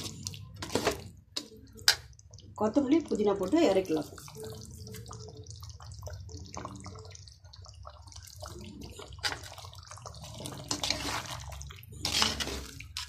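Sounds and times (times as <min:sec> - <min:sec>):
spoon stirring thick gravy: 0:00.0 - 0:13.0.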